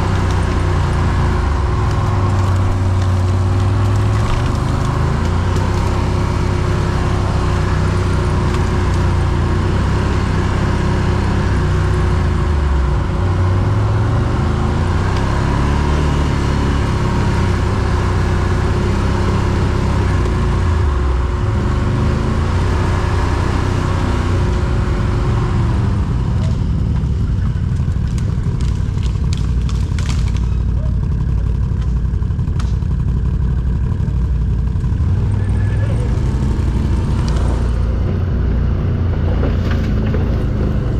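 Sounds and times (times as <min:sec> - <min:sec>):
quad bike engine revving: 0:00.0 - 0:40.9.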